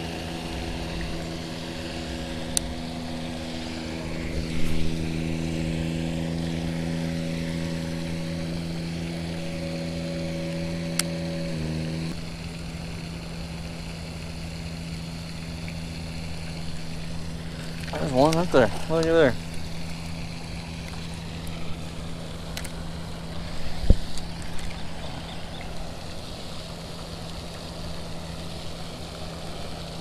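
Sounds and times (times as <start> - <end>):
motor hum: 0.0 - 30.0.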